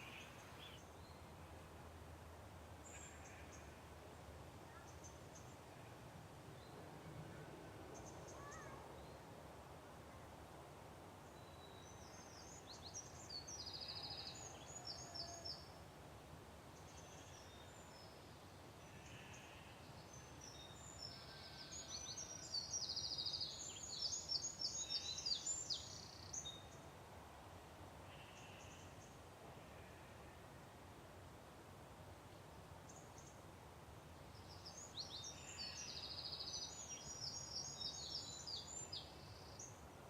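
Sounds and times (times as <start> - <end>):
faint background hiss: 0.0 - 40.0.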